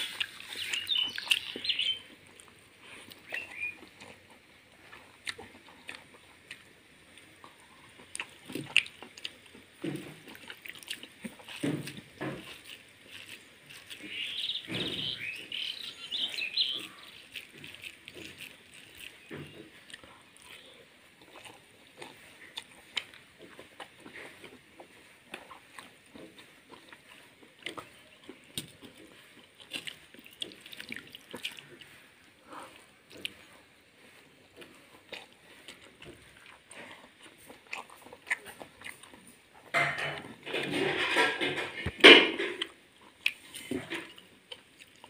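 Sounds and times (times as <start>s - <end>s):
wet rice squelching: 0.0s - 39.5s.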